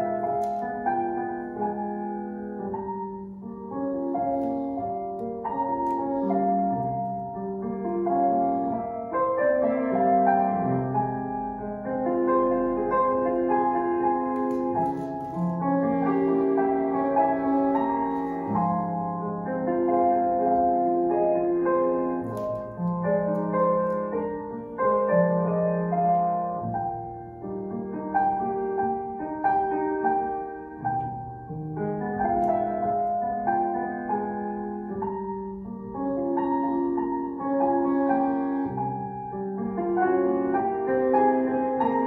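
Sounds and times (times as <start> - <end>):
solo piano music: 0.0 - 42.0.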